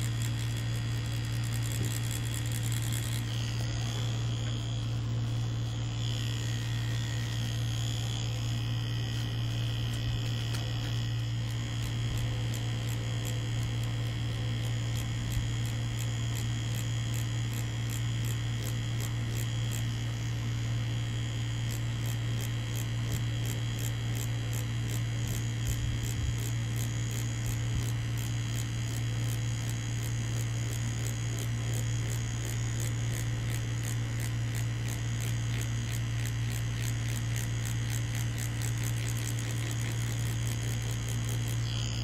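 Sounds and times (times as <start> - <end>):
tattoo machine buzzing: 0.0 - 42.0.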